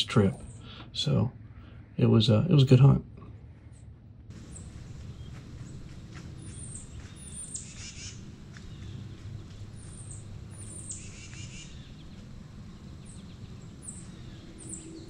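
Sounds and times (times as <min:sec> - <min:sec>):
birds calling: 0:00.0 - 0:15.0
low background rumble: 0:00.0 - 0:15.0.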